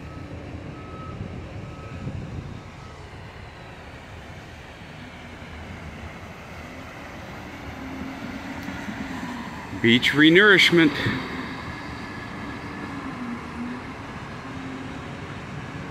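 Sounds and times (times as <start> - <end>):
vehicle reversing beeps: 0.0 - 15.9.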